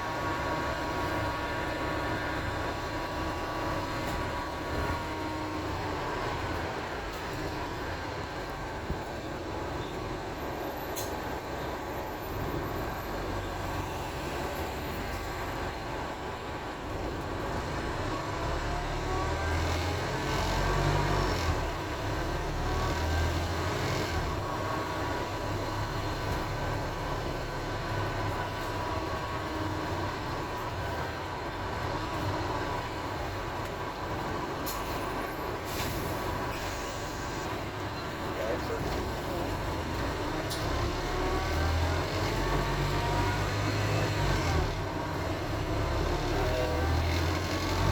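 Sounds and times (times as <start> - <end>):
bus engine and road rumble: 0.0 - 47.9.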